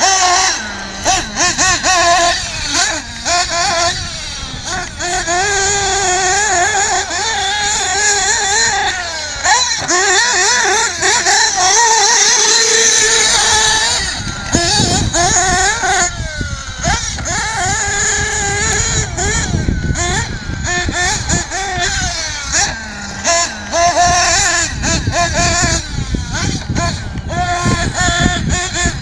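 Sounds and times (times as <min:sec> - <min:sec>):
model car engine revving: 0:00.0 - 0:29.0.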